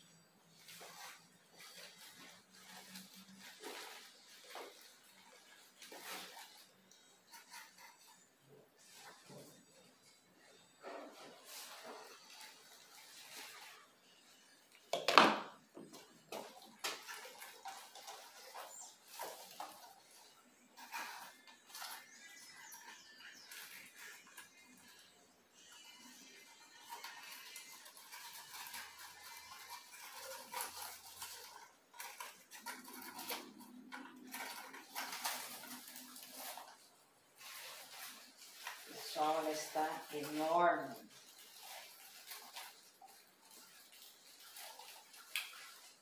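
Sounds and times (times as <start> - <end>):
leaves rustling: 0.5 - 8.2, 10.8 - 14.6, 16.4 - 46.0.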